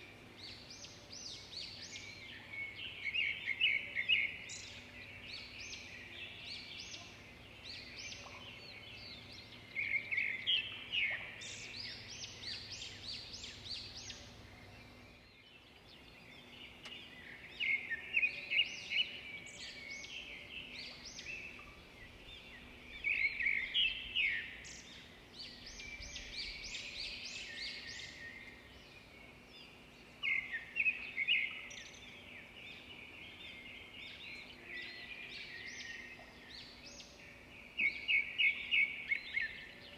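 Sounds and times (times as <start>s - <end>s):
faint outdoor background noise: 0.0s - 39.9s
songbirds chirping and singing: 0.0s - 39.9s.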